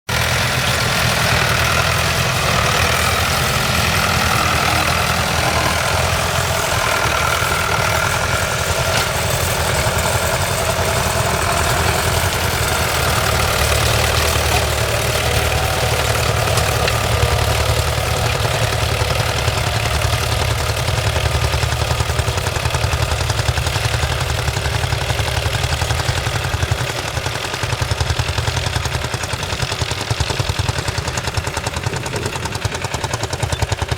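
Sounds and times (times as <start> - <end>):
tractor engine droning: 0.1 - 33.9.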